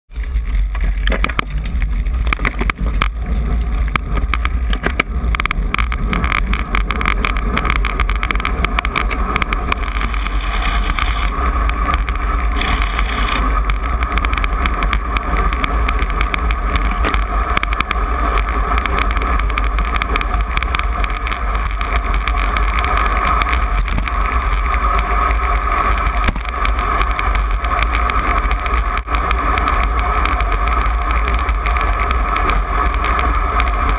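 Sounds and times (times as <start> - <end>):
bicycle clicks and rattles: 0.1 - 33.9
wind and road noise rumble: 0.1 - 33.9.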